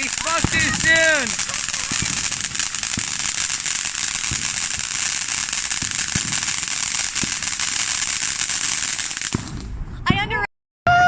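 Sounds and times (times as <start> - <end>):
fireworks crackling: 0.0 - 9.8
deep firework bangs: 0.0 - 10.0.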